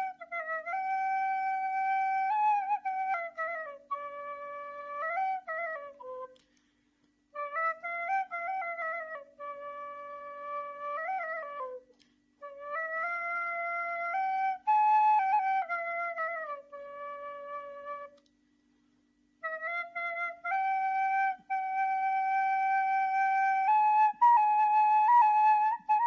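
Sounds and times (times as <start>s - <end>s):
faint low hum: 0.0s - 26.0s
reed flute melody: 0.0s - 26.0s.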